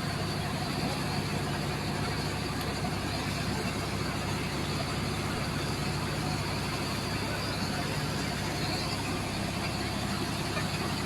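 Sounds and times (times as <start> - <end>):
pump engine running: 0.0 - 11.0.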